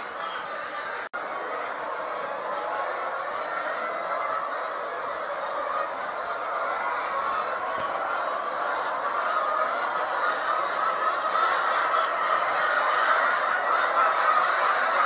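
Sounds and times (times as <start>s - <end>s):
hens calling: 0.0s - 15.0s.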